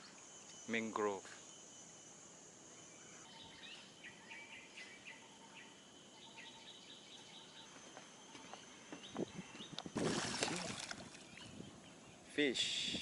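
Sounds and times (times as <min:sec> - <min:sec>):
faint birds chirping: 0:00.0 - 0:13.0
insects droning: 0:00.0 - 0:13.0.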